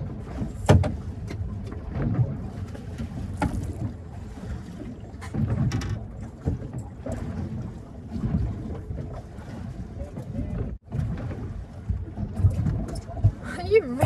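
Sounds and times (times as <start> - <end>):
small boat engine rumble: 0.0 - 14.0
wind on microphone: 0.0 - 14.0.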